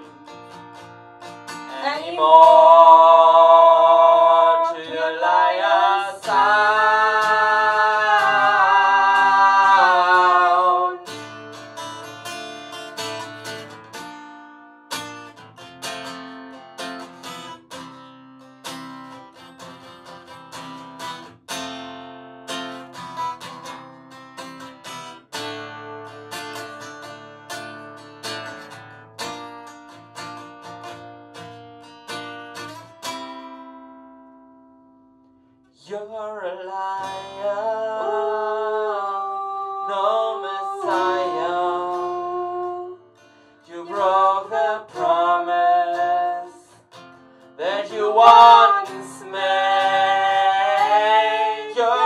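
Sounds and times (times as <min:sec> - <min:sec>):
acoustic guitar strumming chords: 0:00.0 - 0:35.9, 0:36.8 - 0:52.0.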